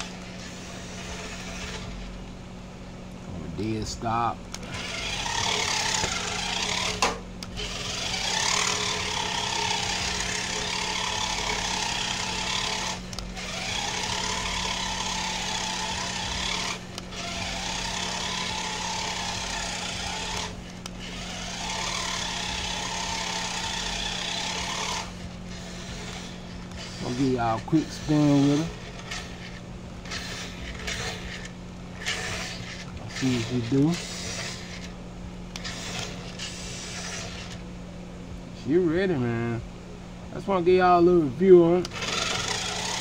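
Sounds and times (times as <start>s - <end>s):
toy car motor whirring: 0.0s - 2.1s, 4.5s - 37.6s, 41.8s - 43.0s.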